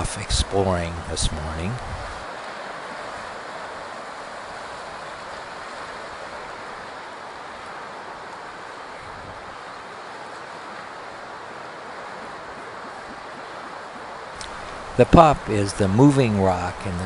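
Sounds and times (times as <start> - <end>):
ocean surf hissing: 0.0 - 17.0.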